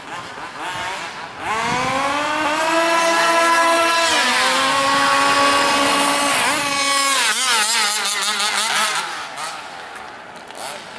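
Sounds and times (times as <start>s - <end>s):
remote control car motors whining: 0.6s - 9.6s.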